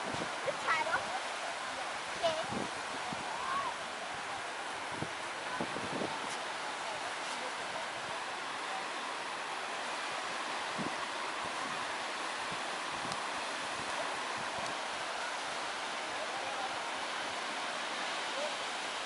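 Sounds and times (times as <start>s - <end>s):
surf breaking on sandy beach: 0.0s - 19.0s.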